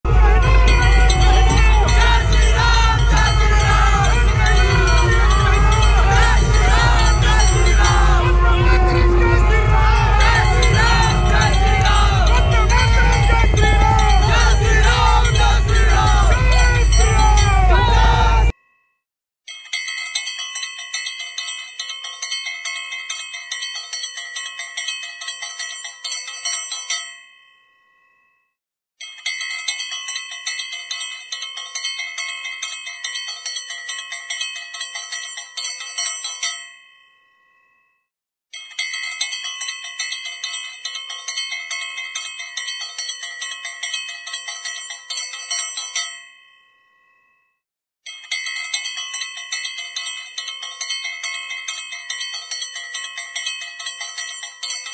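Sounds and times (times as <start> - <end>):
bells ringing rapidly: 0.1 - 18.5, 19.5 - 27.4, 29.0 - 36.9, 38.5 - 46.5, 48.1 - 54.9.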